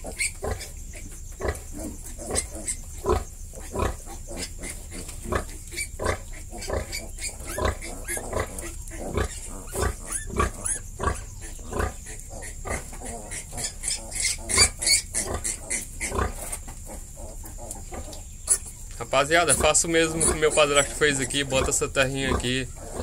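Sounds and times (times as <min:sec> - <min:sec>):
sow grunting: 0:00.0 - 0:18.1, 0:19.0 - 0:23.0
piglets squeaking: 0:00.0 - 0:23.0.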